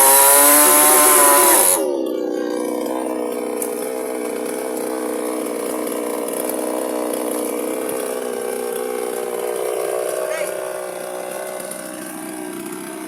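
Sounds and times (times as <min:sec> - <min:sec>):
chainsaw engine idling: 0:00.0 - 0:13.0.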